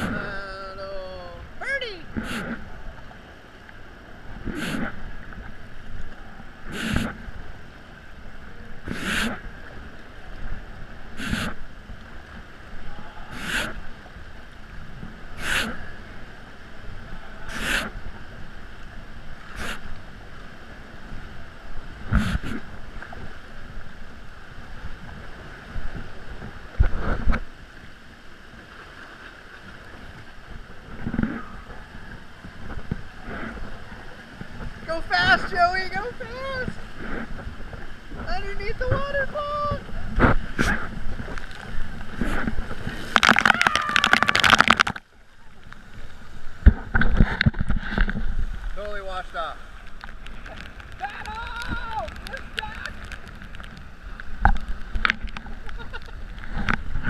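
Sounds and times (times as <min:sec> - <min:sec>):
paddle blades splashing: 0:00.0 - 0:57.0
water washing around kayak: 0:00.0 - 0:57.0.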